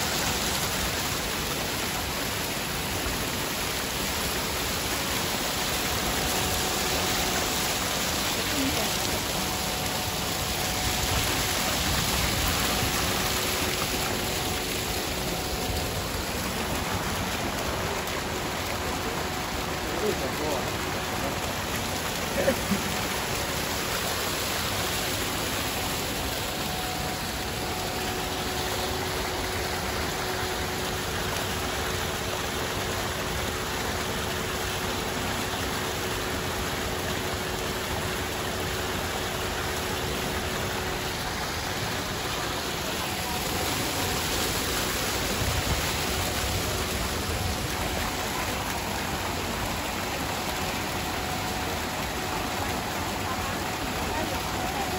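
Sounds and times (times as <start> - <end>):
fountain water splashing into pool: 0.0 - 54.9.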